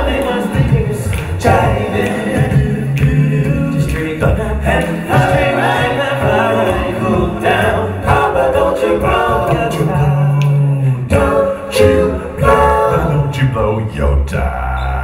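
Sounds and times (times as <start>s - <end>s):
deep sung bass line: 0.0s - 15.0s
male vocal ensemble singing harmony: 0.0s - 15.0s.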